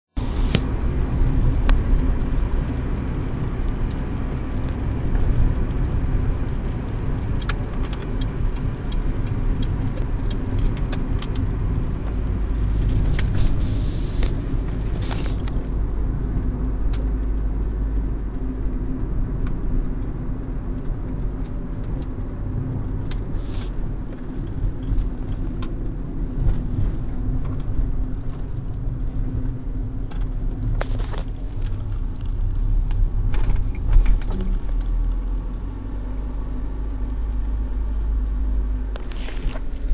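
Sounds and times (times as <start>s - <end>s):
car engine and road rumble: 0.1s - 39.9s.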